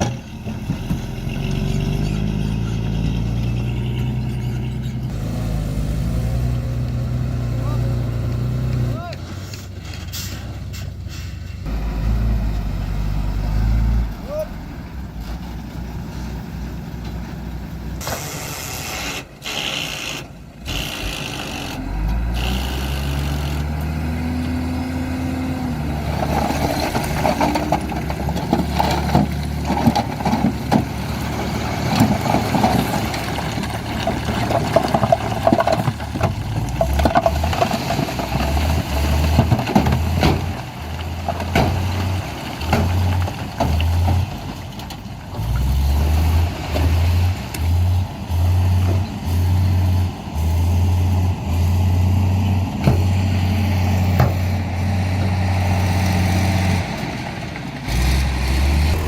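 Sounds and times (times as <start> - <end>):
diesel truck engines revving: 0.0 - 59.0.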